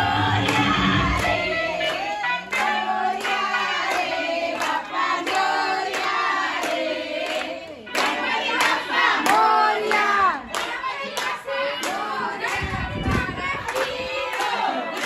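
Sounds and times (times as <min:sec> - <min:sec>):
people clapping in time: 0:00.0 - 0:15.0
women and children singing: 0:00.0 - 0:15.0.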